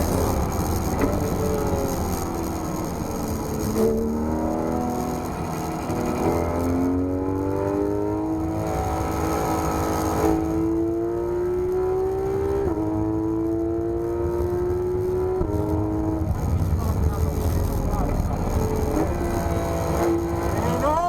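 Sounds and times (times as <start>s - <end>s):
sports car engine accelerating: 0.0s - 21.0s.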